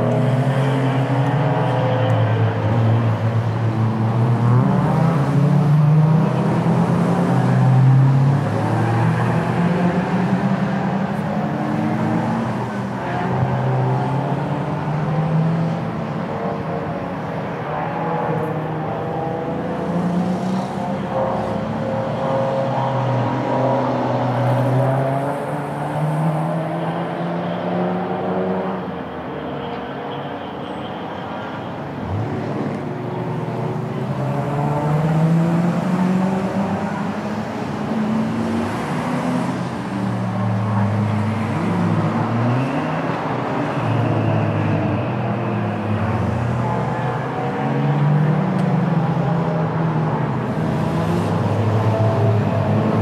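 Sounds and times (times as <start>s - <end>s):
race car engines running hard: 0.0s - 53.0s.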